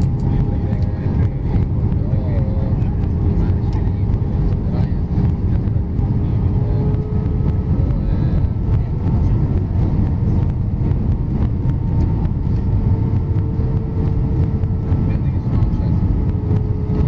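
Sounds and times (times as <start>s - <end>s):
airplane cabin rumble: 0.0s - 17.0s
faint steady engine tones: 0.0s - 17.0s.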